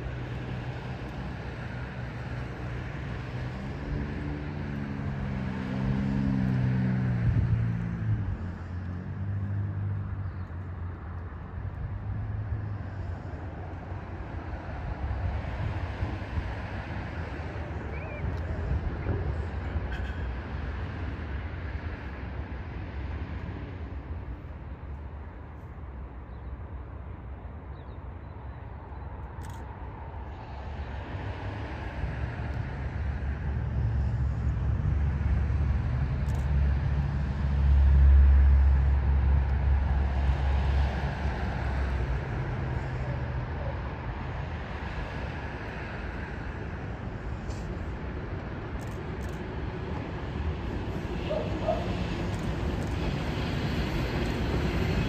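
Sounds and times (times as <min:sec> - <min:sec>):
passing vehicle rumble: 0:00.0 - 0:24.8, 0:29.4 - 0:55.0.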